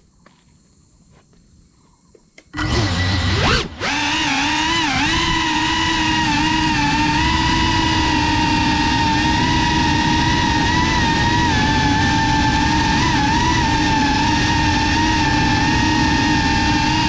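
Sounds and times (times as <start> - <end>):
drone propellers whining: 2.5 - 17.0.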